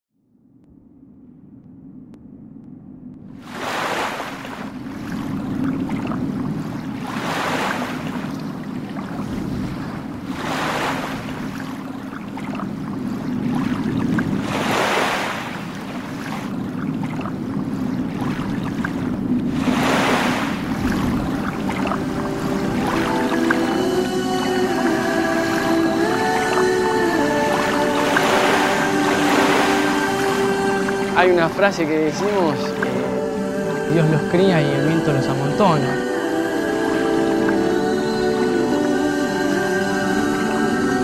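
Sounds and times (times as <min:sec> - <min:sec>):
low rumble of wind and water: 0:00.2 - 0:41.0
waves washing in: 0:03.3 - 0:41.0.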